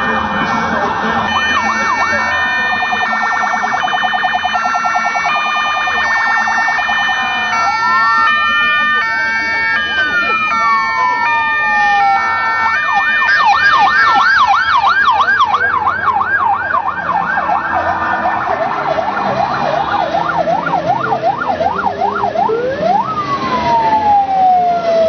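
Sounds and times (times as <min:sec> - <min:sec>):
electronic siren yelping and wailing: 0:00.0 - 0:25.0.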